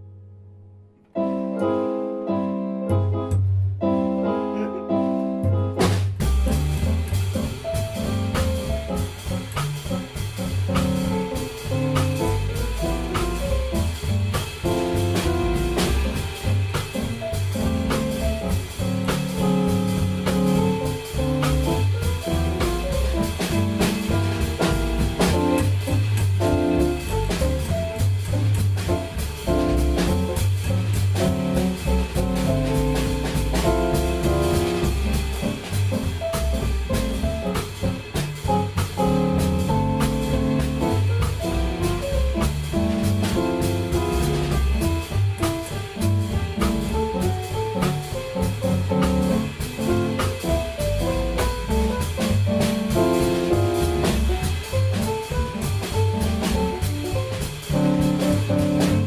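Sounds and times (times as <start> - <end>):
stage piano chords: 0.0 - 59.0
double bass line: 1.2 - 59.0
drum kit cymbal beat: 5.7 - 59.0.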